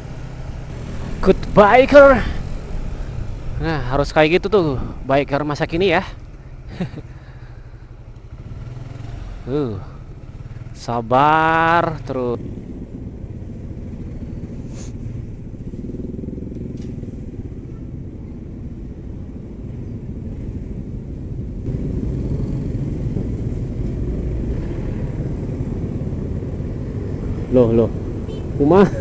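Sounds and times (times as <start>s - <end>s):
motorcycle engine running: 0.0s - 18.2s, 21.7s - 27.5s
traffic of motorbikes and cars: 0.0s - 29.0s.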